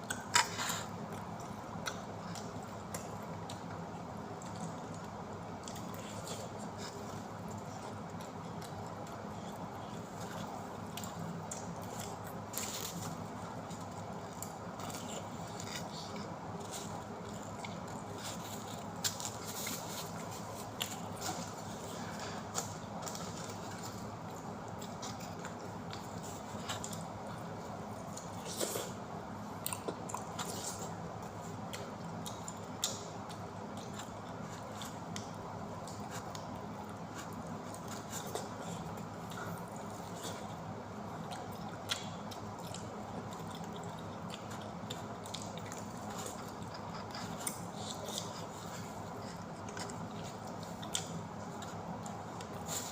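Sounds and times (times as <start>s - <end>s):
person chewing food: 0.0s - 52.9s
steady low hum: 0.0s - 52.9s.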